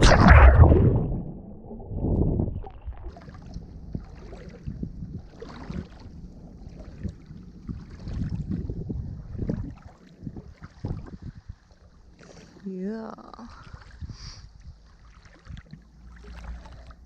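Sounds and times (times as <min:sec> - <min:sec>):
muffled underwater water noise: 0:00.0 - 0:17.0
sea water sloshing and splashing: 0:00.0 - 0:17.0.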